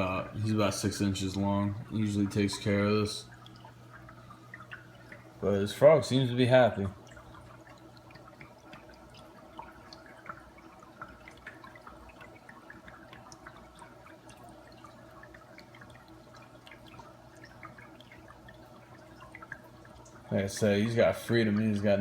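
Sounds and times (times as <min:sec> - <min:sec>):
steady low hum: 0:00.0 - 0:22.0
water dripping and splashing: 0:00.0 - 0:22.0.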